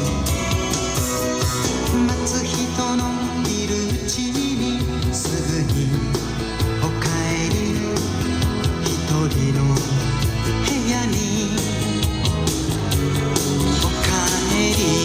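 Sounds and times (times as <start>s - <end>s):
music with singing and beat: 0.0s - 15.0s.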